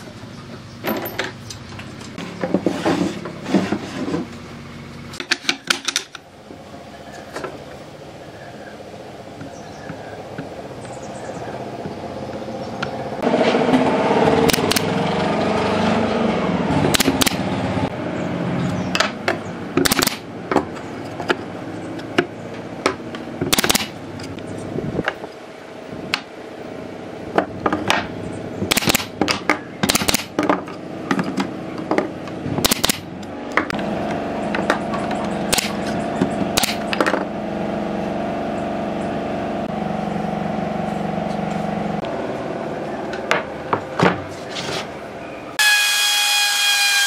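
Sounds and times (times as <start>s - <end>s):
motor hum: 0.0s - 47.0s.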